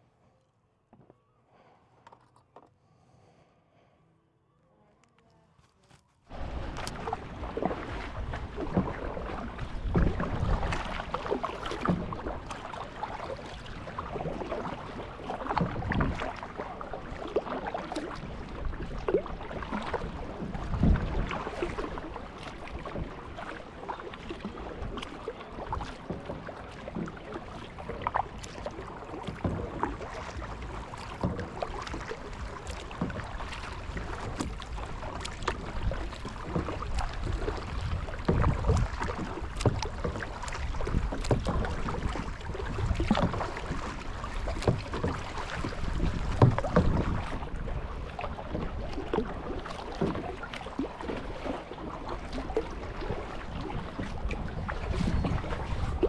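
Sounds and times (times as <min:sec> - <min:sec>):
paddle splashing in water: 0:05.6 - 0:56.0
moving water wash: 0:06.3 - 0:56.0.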